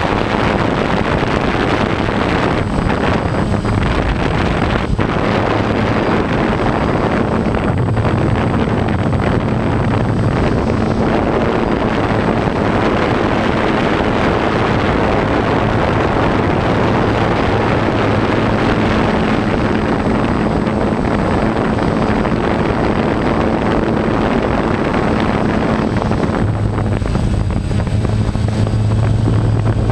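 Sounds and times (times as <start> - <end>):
drone motors and propellers: 0.0 - 29.9
wind noise on microphone: 0.0 - 29.9.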